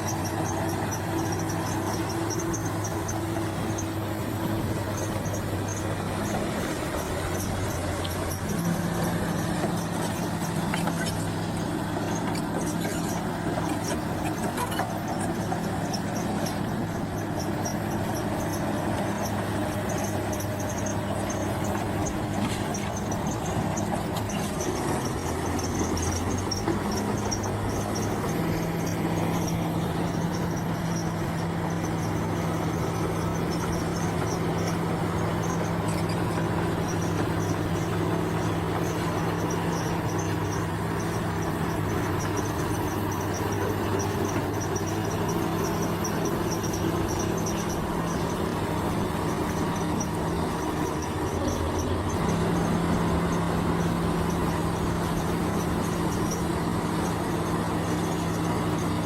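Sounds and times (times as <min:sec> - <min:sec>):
diesel bulldozer engine running: 0:00.0 - 0:59.0
insects chirping: 0:00.0 - 0:59.0.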